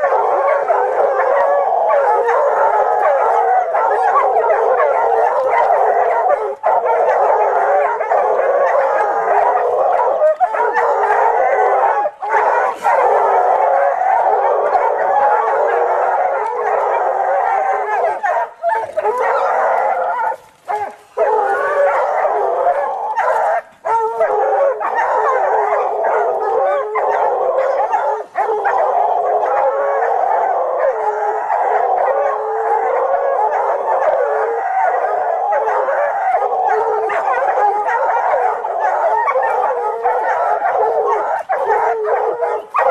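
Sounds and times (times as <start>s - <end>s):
dog howling and whimpering: 0.0s - 42.9s.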